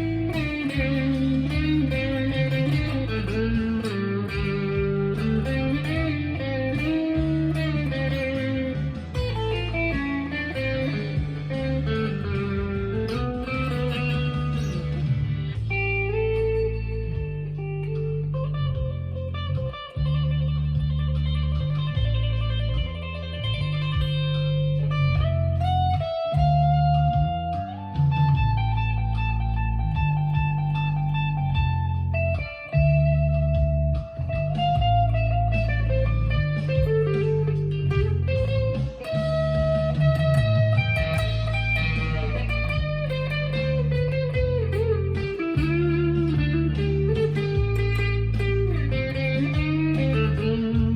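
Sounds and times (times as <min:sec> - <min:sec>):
electric guitar lead line: 0:00.0 - 0:50.9
low accompaniment: 0:00.0 - 0:50.9.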